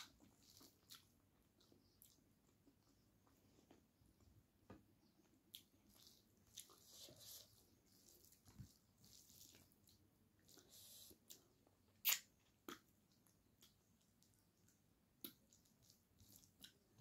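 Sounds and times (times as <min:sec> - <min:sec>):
chewing and mouth clicks: 0:00.0 - 0:03.4, 0:05.5 - 0:17.0
wet squishing of food by hand: 0:00.0 - 0:04.2, 0:05.1 - 0:17.0.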